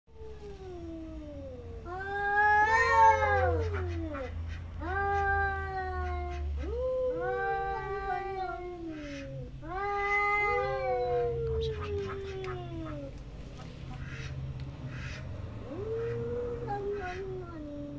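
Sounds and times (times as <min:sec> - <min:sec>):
cats yowling: 0:00.2 - 0:13.2, 0:15.6 - 0:17.9.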